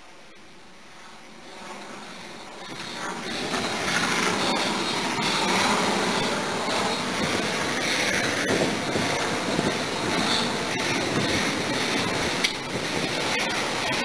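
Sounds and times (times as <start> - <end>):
helicopter flying overhead: 0.0 - 14.0.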